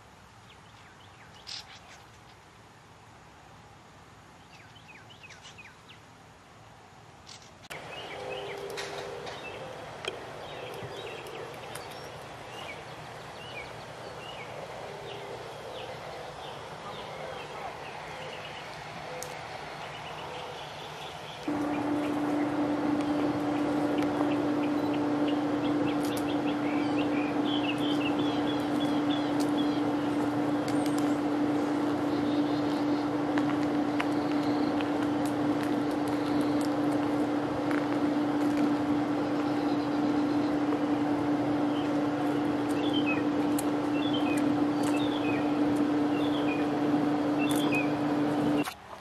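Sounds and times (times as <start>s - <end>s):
low mechanical hum: 0.0s - 49.0s
many birds chirping and calling: 7.7s - 48.7s.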